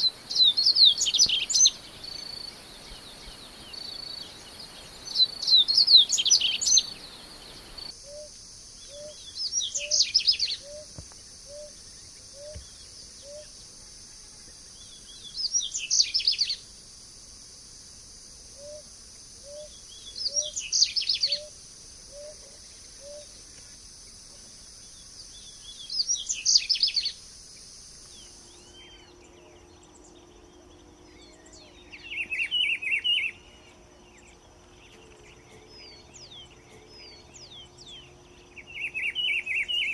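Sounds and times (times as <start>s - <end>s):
lower-pitched bird song: 0.0s - 13.6s, 14.7s - 16.6s, 19.4s - 23.8s, 24.8s - 27.2s, 28.0s - 39.9s
songbird singing: 0.0s - 16.7s, 18.5s - 39.9s.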